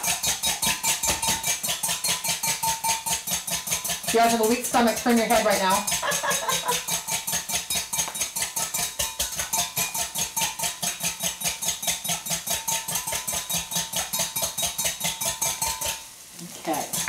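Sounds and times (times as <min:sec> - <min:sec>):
whisk beating in glass bowl: 0:00.0 - 0:16.0.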